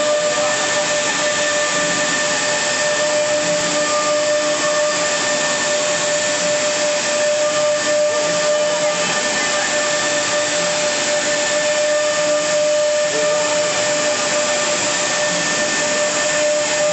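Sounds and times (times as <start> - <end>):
router bit hissing through board: 0.0 - 16.9
router spindle whine: 0.0 - 16.9.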